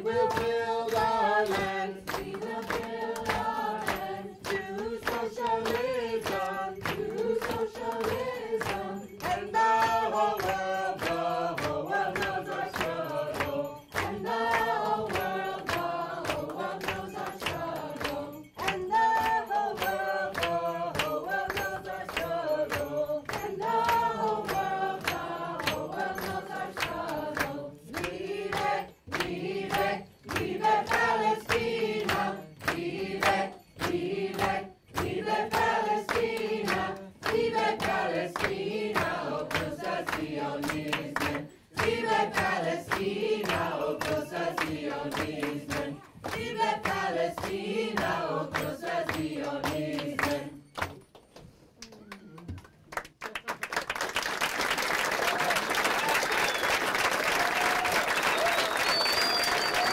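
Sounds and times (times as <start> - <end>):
group singing a chant: 0.0 - 50.8
hand clapping: 0.0 - 59.9.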